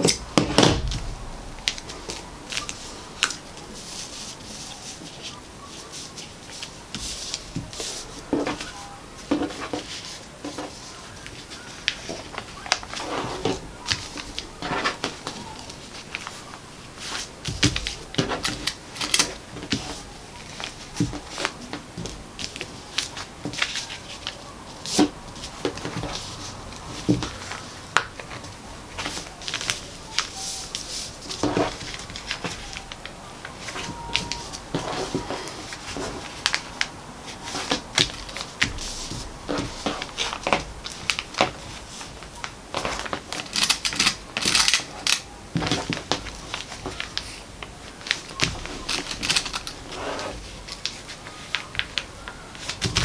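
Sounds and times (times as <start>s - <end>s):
paper rustling: 0.0s - 53.0s.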